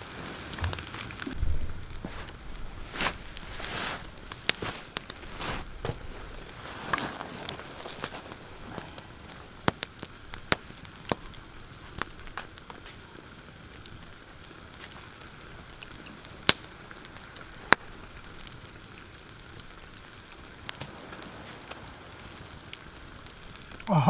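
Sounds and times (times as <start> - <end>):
campfire crackling and popping: 0.0 - 23.9
soft steady hiss: 0.0 - 24.0.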